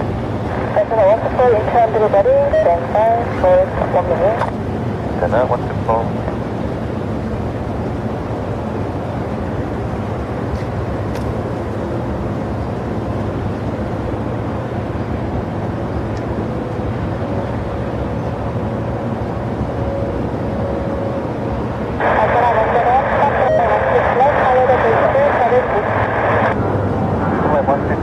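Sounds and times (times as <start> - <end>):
faint steady whine: 0.0 - 28.0
jet engines running: 0.0 - 28.0.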